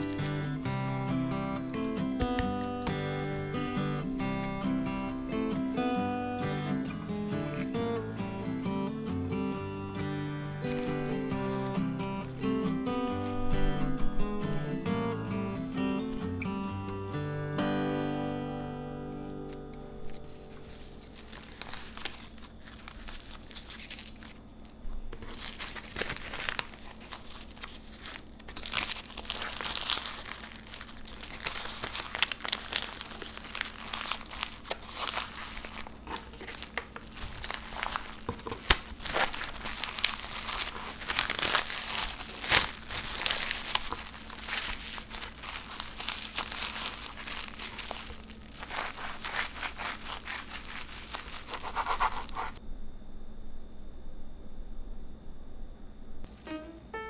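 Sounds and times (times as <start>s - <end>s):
cling film crinkling: 0.0s - 8.3s, 8.9s - 14.8s, 19.1s - 52.6s.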